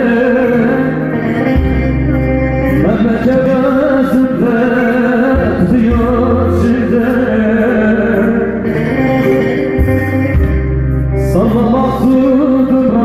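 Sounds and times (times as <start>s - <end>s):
keyboard sustained low notes: 0.0s - 13.0s
long-necked lute playing: 0.0s - 13.0s
man singing into microphone: 0.0s - 13.0s.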